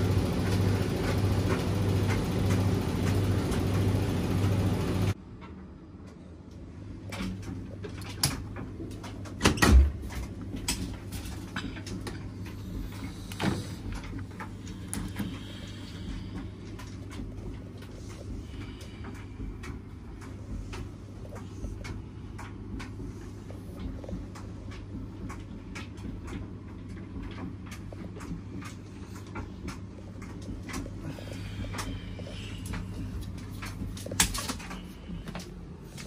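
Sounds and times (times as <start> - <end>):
washing machine hum: 0.0 - 36.0.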